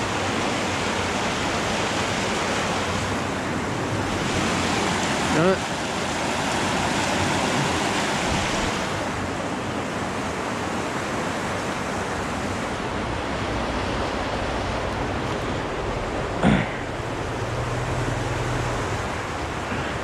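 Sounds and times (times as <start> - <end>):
water flowing over rocks: 0.0 - 20.0.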